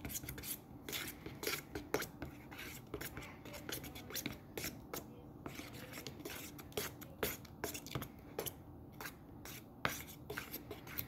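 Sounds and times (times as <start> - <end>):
sticky slime squelch: 0.0 - 11.0
stirrer scraping plastic bowl: 0.0 - 11.0.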